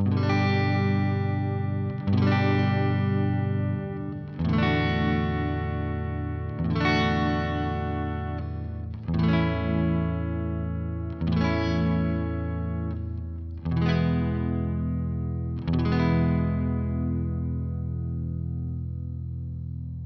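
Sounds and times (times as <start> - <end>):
electric guitar chords ringing: 0.0 - 20.0.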